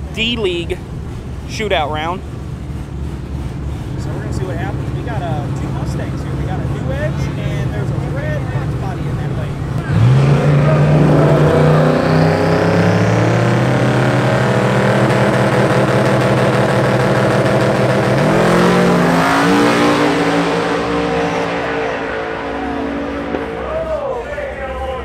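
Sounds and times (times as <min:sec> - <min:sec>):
cars drag racing at full throttle: 0:00.0 - 0:25.0.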